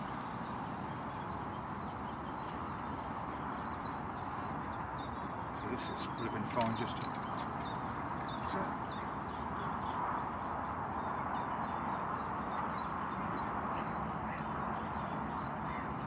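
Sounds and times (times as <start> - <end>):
rushing outdoor background: 0.0 - 16.0
small birds chirping: 0.0 - 16.0.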